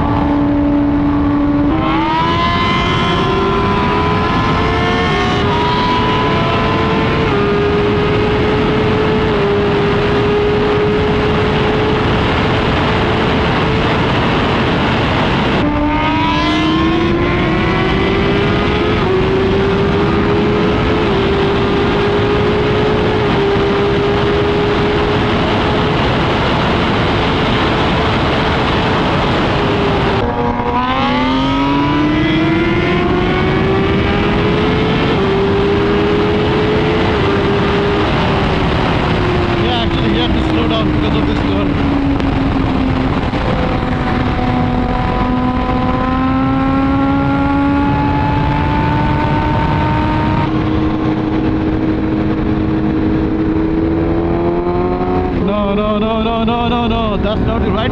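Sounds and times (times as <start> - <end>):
heavy wind noise: 0.0 - 57.9
motorcycle engine at high revs: 0.0 - 57.9.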